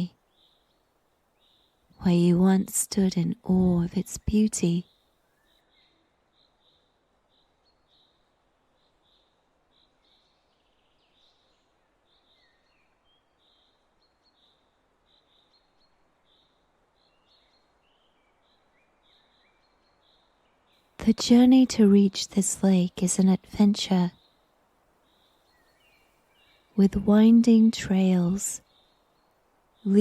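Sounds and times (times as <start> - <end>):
faint birdsong chirps: 0.0 - 30.0
soft steady hiss: 0.0 - 30.0.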